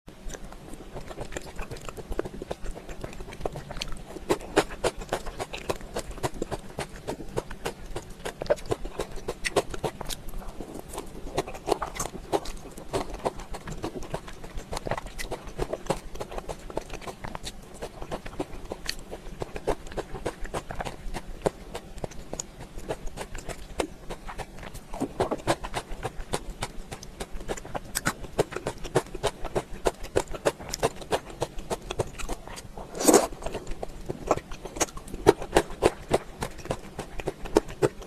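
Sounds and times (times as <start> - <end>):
person chewing with mouth clicks: 0.2 - 38.0.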